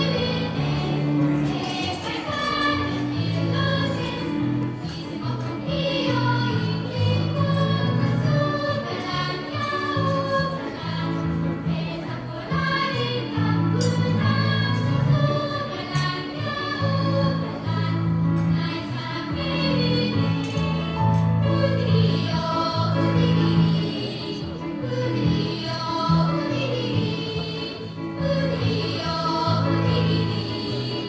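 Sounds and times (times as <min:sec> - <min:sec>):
children's choir singing: 0:00.0 - 0:31.0.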